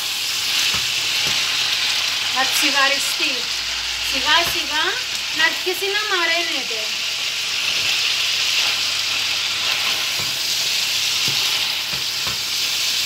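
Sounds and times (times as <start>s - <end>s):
beans sizzling in oil: 0.0s - 13.0s.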